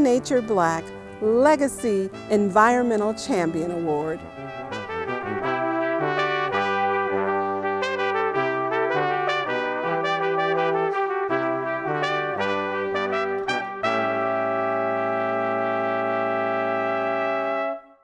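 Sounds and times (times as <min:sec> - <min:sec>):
brass chords: 0:00.0 - 0:18.0.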